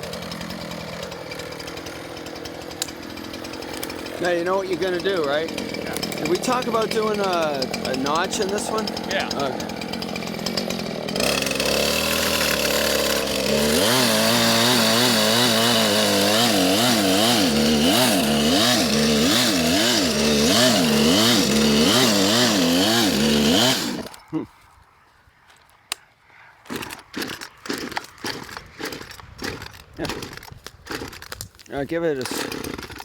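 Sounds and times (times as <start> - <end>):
chainsaw cutting tree trunk: 0.0 - 24.3, 26.6 - 33.0.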